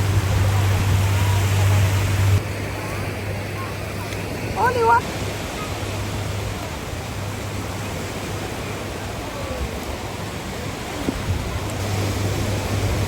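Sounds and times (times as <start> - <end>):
surf rushing on beach: 0.0 - 13.0.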